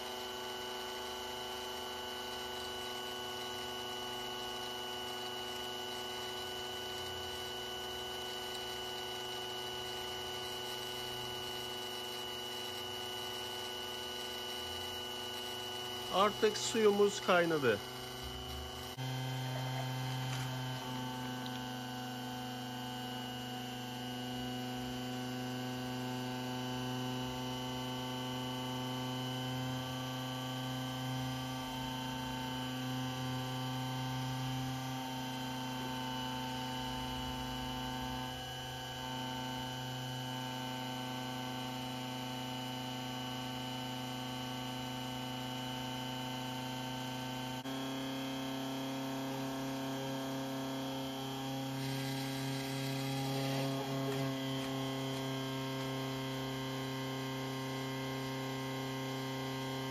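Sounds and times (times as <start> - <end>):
electric motor humming: 0.0 - 59.9.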